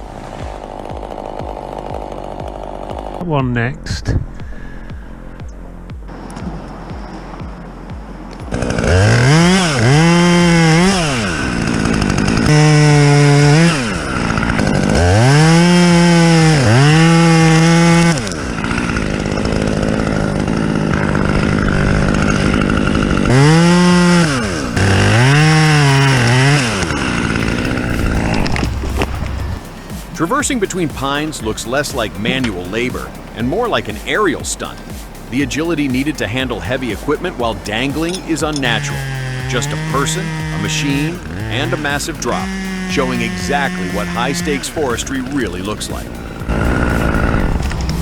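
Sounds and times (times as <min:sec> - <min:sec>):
chainsaw engine revving: 0:00.0 - 0:03.2, 0:06.1 - 0:48.0.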